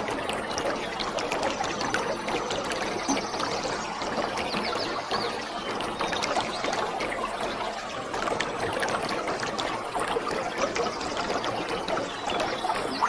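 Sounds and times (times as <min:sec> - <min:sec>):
waterfall pouring and splashing: 0:00.0 - 0:13.0.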